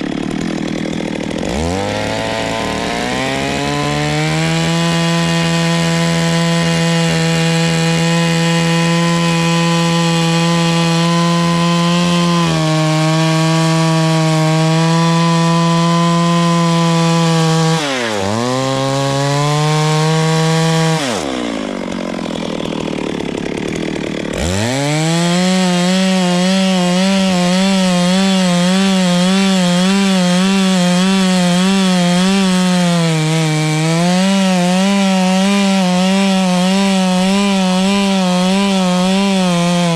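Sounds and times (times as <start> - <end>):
chainsaw cutting tree trunk: 0.0 - 39.9.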